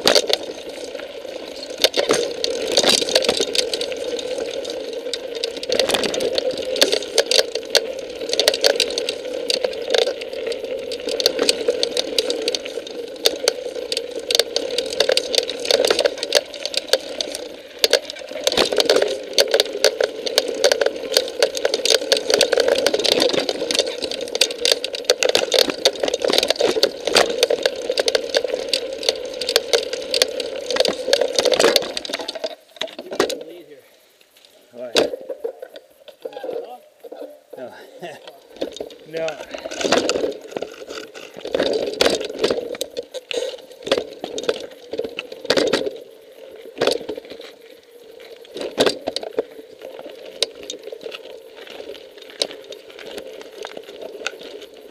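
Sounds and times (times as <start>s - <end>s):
bike rattling and clicking: 0.0s - 33.8s, 37.1s - 54.9s.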